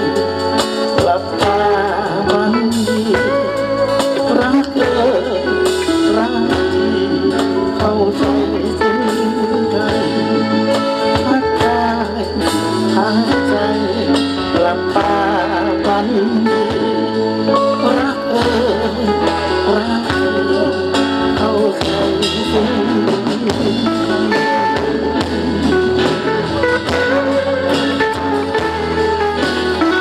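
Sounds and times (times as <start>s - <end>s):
live band playing with guitar: 0.0s - 30.0s
person singing: 0.0s - 30.0s.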